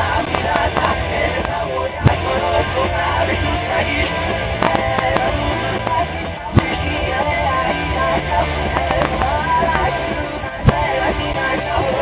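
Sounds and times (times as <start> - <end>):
music playing: 0.0 - 12.0.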